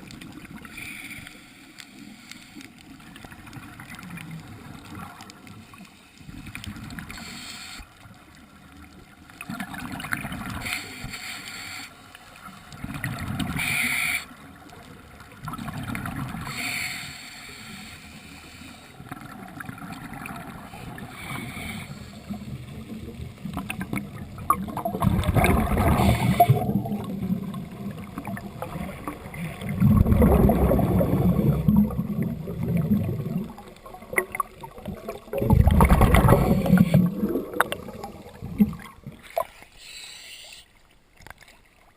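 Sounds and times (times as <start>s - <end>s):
water sloshing and gurgling: 0.0s - 11.2s, 12.1s - 40.0s, 40.7s - 41.9s.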